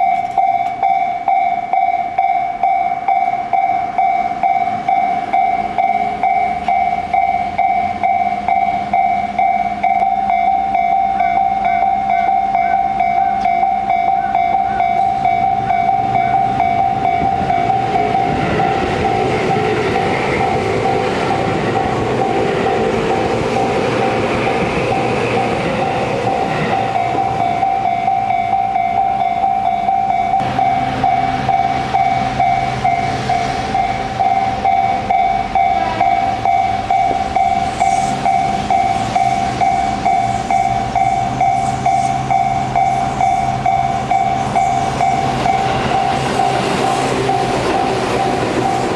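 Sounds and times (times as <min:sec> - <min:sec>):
level crossing bell ringing: 0:00.0 - 0:22.9, 0:24.9 - 0:48.9
train rumbling: 0:00.0 - 0:48.9.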